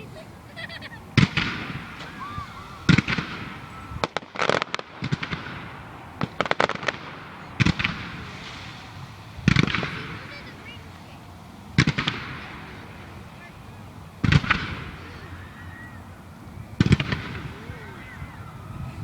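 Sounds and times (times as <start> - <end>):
fireworks booming: 0.0 - 19.0
crackling firework bangs: 0.7 - 19.0.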